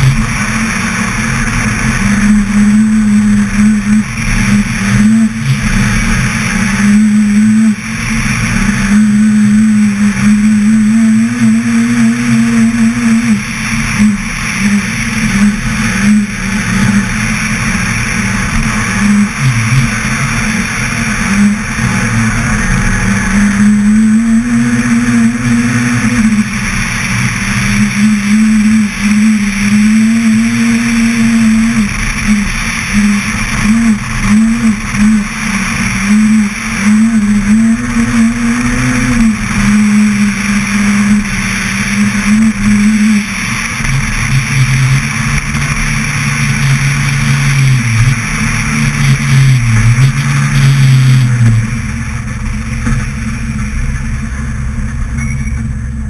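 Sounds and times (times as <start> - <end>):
rally car engine revving hard: 0.0 - 56.0
tyres rushing on snowy road: 0.0 - 56.0.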